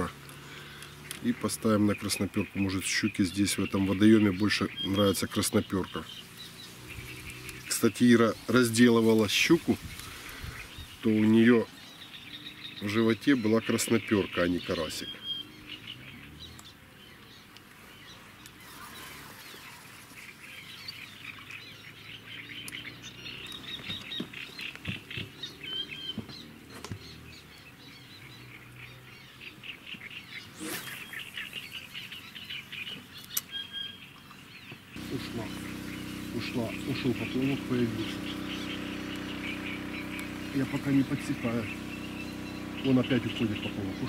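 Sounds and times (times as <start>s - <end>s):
small birds chirping and singing: 0.0s - 44.0s.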